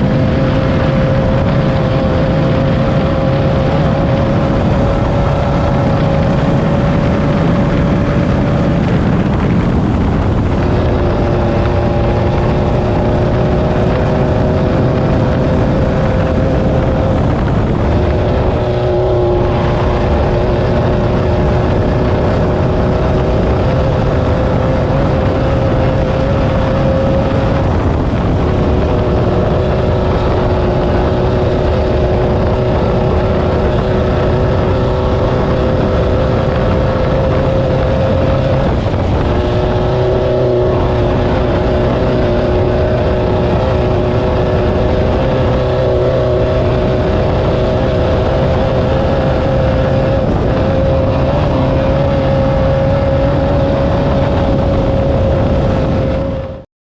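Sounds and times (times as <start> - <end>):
buggy engine at high revs: 0.0 - 56.7.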